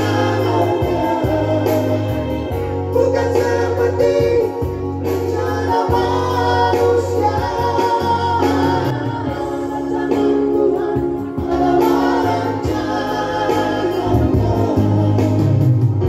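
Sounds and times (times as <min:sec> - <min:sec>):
instrumental accompaniment with bass: 0:00.0 - 0:16.0
men's group singing in harmony: 0:00.0 - 0:16.0.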